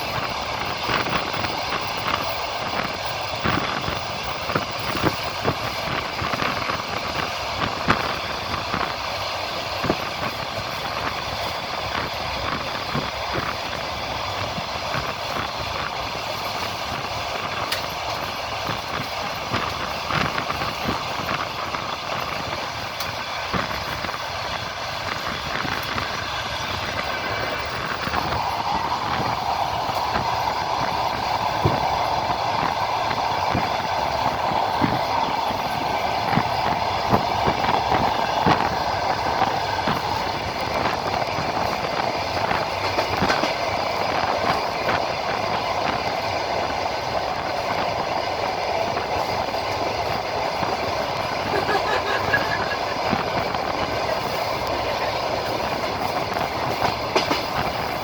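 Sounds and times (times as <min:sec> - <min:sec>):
train running rumble: 0:00.0 - 0:58.0
train wheels clacking on rail joints: 0:00.0 - 0:58.0.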